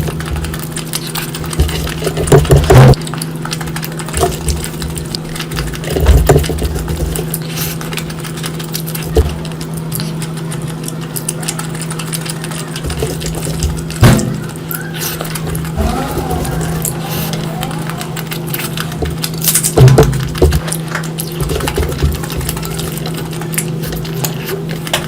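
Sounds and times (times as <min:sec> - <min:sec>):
close eating sounds: 0:00.0 - 0:25.0
steady mechanical hum: 0:00.0 - 0:25.0.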